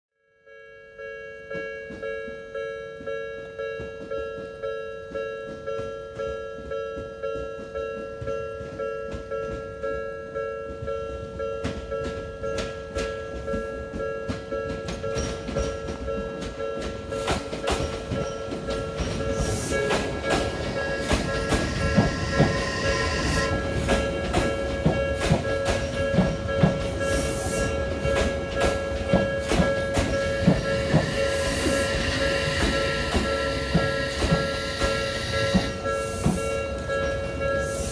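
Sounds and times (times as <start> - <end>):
level-crossing alarm bell: 0.2 - 37.9
train wheels clattering: 1.6 - 37.9.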